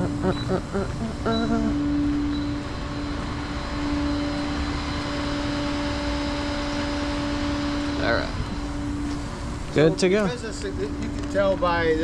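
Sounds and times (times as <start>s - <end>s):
truck engine rumble: 0.0s - 12.0s
winch whine: 0.0s - 12.0s.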